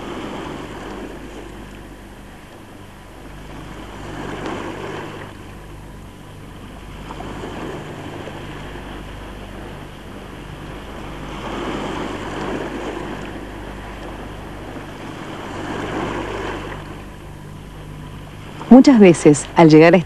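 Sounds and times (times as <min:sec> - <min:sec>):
sea waves on rocky shore: 0:00.0 - 0:20.0
steady low hum: 0:00.0 - 0:20.0.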